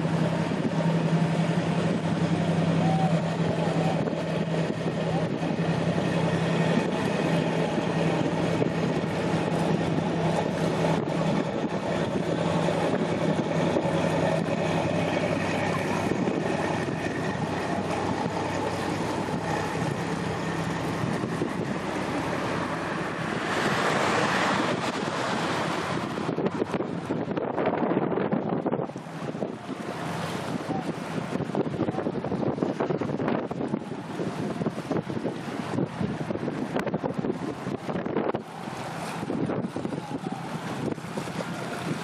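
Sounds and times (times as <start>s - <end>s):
low engine hum: 0.0s - 42.0s
water washing against embankment: 0.0s - 42.0s
wind on microphone: 0.0s - 42.0s.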